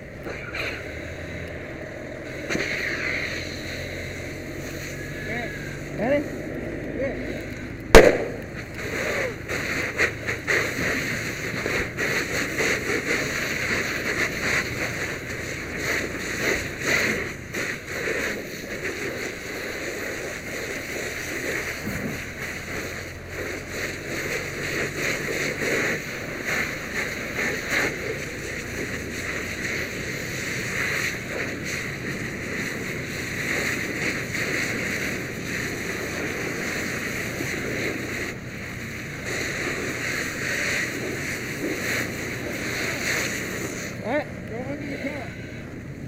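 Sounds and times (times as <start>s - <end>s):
fire hose spraying water: 0.0s - 46.0s
water turning to steam: 0.1s - 6.6s, 7.2s - 44.1s.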